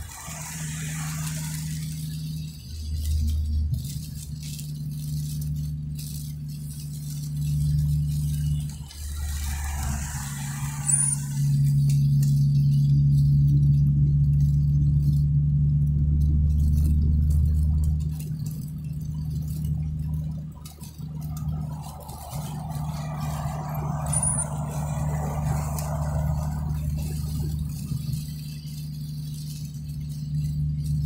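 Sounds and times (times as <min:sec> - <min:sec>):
soft rushing noise: 0:00.0 - 0:13.7, 0:16.5 - 0:31.0
car engine and road noise: 0:00.0 - 0:31.0.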